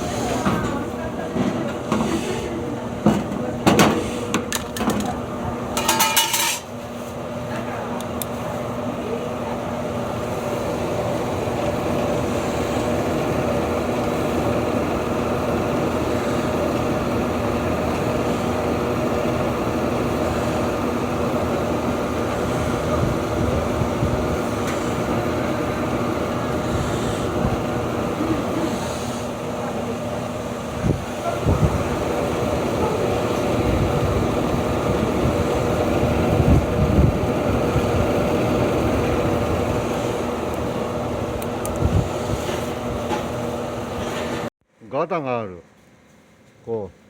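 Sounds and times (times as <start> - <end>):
washer-dryer rumbling drone: 0.0 - 44.5.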